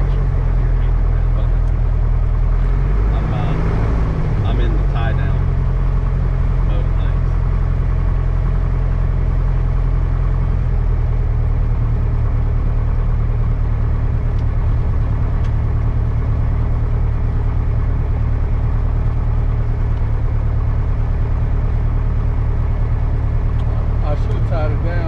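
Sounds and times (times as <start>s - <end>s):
propeller plane engine droning: 0.0s - 25.0s.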